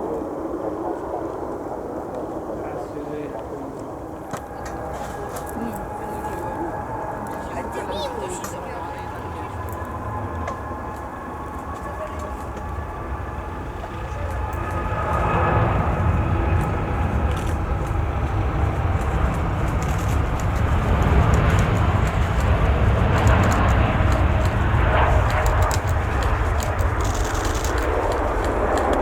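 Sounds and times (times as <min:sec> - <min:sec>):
jet engines rumbling: 0:00.0 - 0:29.0
thin steady engine whine: 0:00.0 - 0:29.0.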